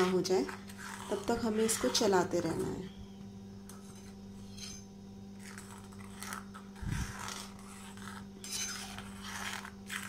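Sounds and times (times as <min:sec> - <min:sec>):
metal spoon scraping pan: 0:00.0 - 0:02.8, 0:03.7 - 0:10.0
steady low hum: 0:00.0 - 0:10.0.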